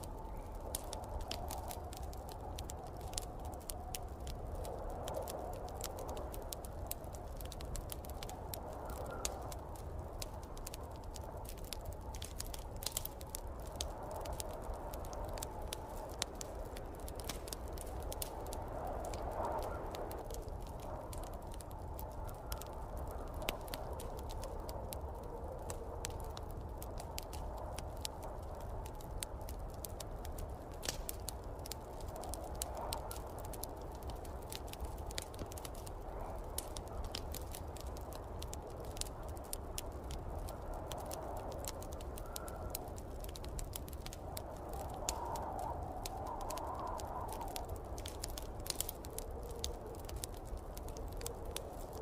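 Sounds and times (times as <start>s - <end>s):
low wind rumble and hiss: 0.0s - 52.0s
wood fire crackling and popping: 0.0s - 52.0s.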